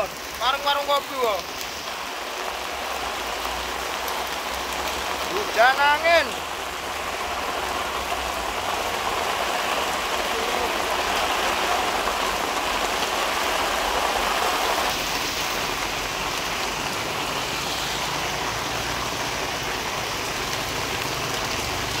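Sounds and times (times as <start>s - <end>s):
heavy rain on road: 0.0s - 22.0s.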